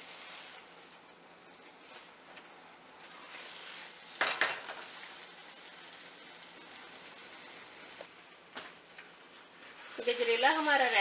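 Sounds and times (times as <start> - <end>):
spatula stirring and scraping: 0.0 - 8.1, 9.2 - 11.0
food sizzling in a pan: 1.8 - 11.0.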